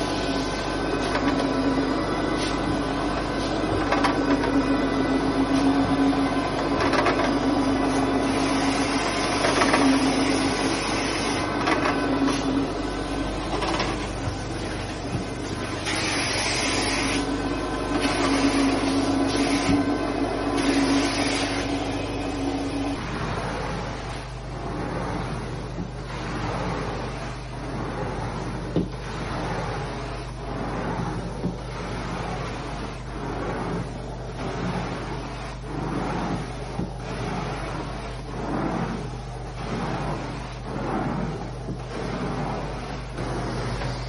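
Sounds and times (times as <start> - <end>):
carpet cleaning machine humming: 0.0 - 44.0.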